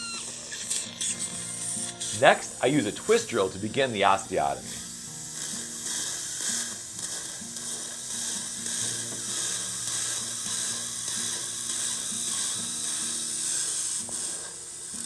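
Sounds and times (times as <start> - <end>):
surgical suction hissing: 0.0 - 15.0.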